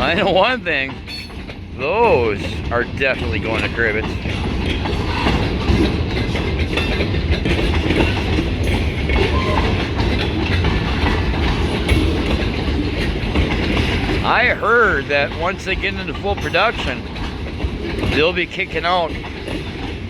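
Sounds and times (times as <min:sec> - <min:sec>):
railcar knocks: 0:00.0 - 0:20.0
train wheels rumbling on rail: 0:00.0 - 0:20.0.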